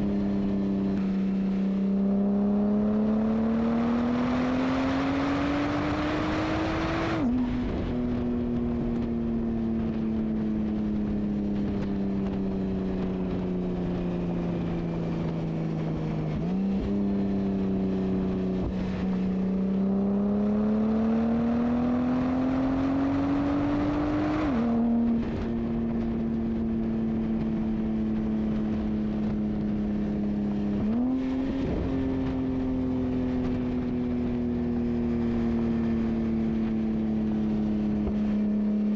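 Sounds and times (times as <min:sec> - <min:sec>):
car engine accelerating and shifting: 0:00.0 - 0:38.9.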